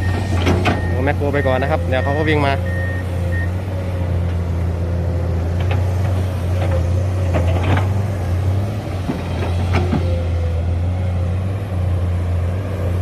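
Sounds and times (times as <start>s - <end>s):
heavy diesel engine humming: 0.0s - 13.0s.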